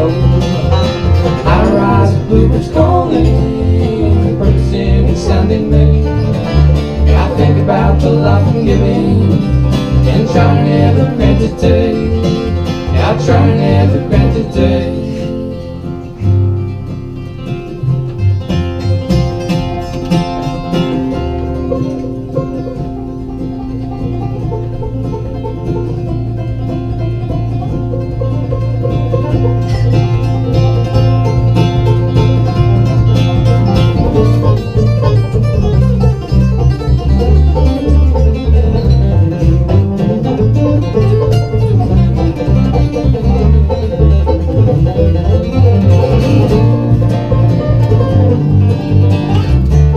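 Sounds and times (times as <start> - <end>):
banjo picking: 0.0 - 49.9
guitar picking: 0.0 - 49.9.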